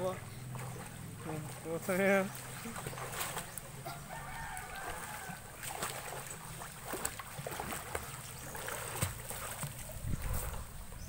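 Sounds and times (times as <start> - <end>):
river water splashing: 0.0 - 11.0
small scattered splashes: 0.6 - 9.9.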